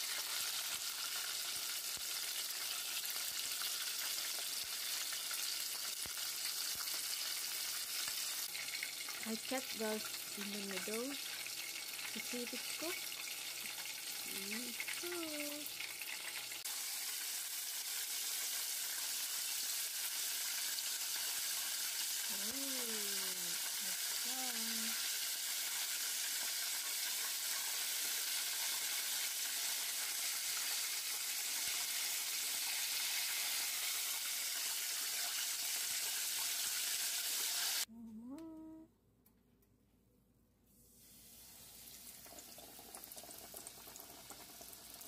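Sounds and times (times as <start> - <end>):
chicken deep-frying in oil: 0.0 - 37.9, 40.9 - 45.0.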